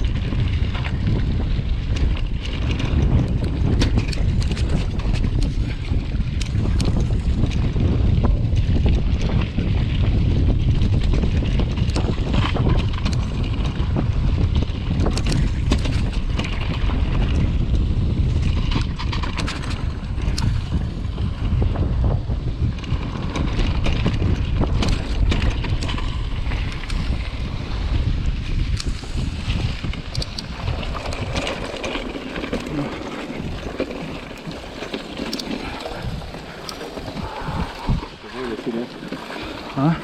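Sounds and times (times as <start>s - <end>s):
bike clicks and rattles: 0.0s - 40.0s
wind buffeting microphone: 0.0s - 40.0s.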